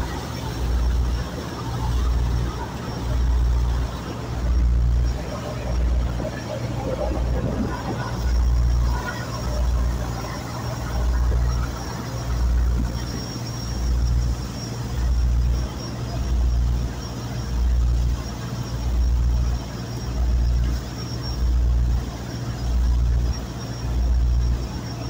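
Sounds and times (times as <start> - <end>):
boat engine throbbing: 0.0 - 25.0.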